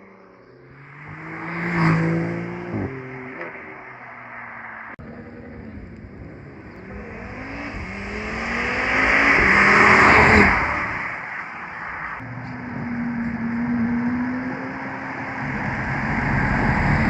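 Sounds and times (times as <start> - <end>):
car accelerating past: 0.0 - 17.0.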